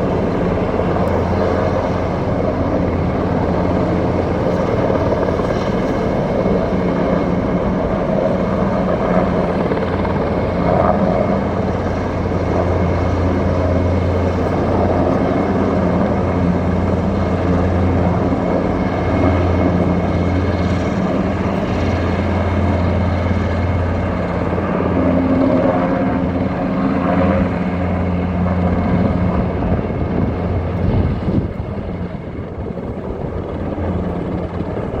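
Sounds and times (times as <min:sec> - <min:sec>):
helicopter rotor and turbine drone: 0:00.0 - 0:35.0.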